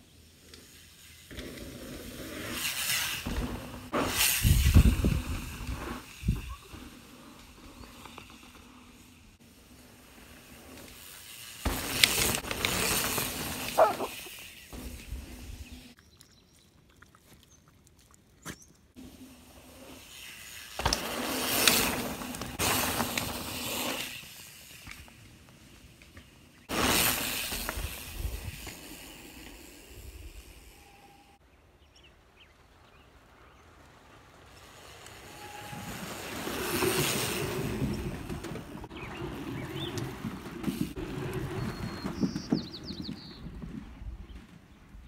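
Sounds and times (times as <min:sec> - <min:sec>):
bike tyres rolling over dirt: 0:00.1 - 0:16.5, 0:19.0 - 0:31.1, 0:31.8 - 0:45.0.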